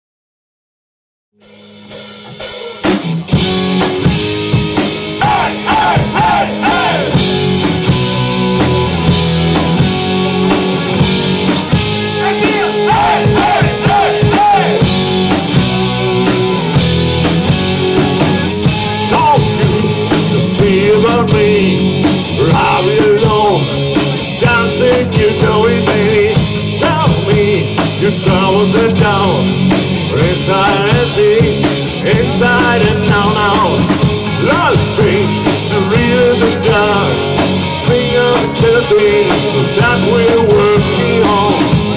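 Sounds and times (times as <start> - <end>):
rock band playing live: 1.4 - 41.9
bending lead guitar line: 1.6 - 41.9.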